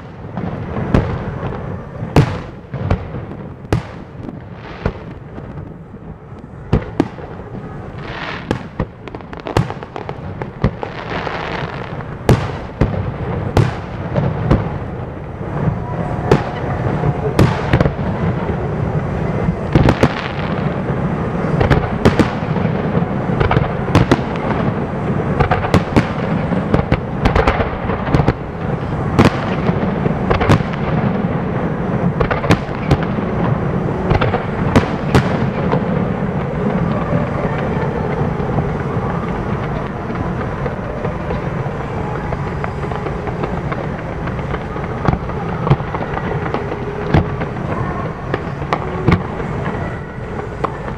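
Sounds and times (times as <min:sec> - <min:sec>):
continuous fireworks rumble: 0:00.0 - 0:50.9
fireworks bursting bangs: 0:00.0 - 0:50.9.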